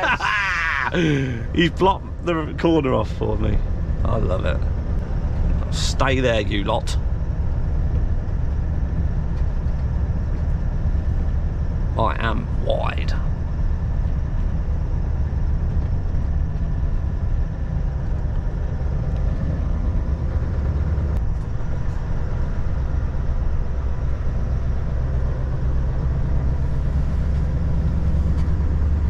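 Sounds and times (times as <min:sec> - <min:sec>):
lorry diesel engine droning: 0:00.0 - 0:29.0
road noise: 0:00.0 - 0:29.0.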